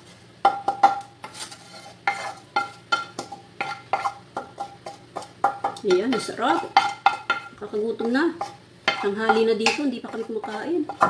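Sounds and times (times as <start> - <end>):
wooden spatula tapping metal pan: 0.4 - 1.4, 2.0 - 11.0.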